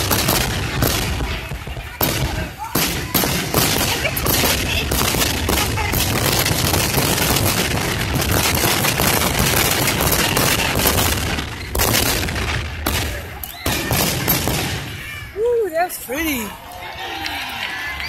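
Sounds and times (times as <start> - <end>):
fireworks bangs and crackling: 0.0 - 16.5.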